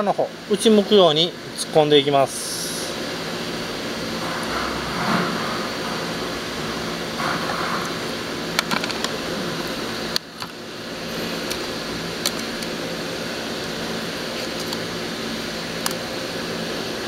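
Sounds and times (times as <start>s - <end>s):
mechanical room hum: 0.0s - 17.0s.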